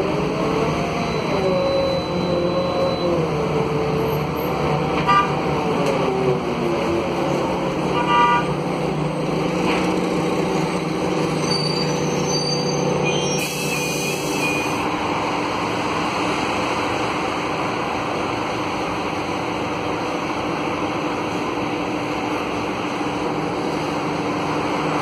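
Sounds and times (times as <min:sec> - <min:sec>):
bus engine humming: 0:00.0 - 0:25.0.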